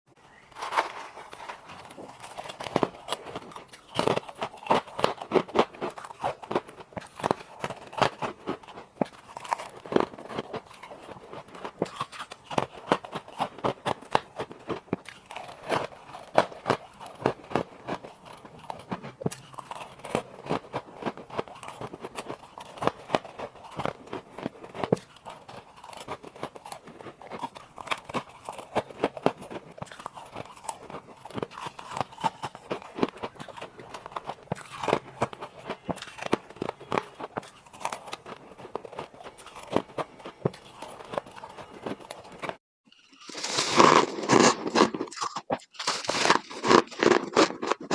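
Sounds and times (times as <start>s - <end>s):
ice being chewed: 0.3s - 47.9s.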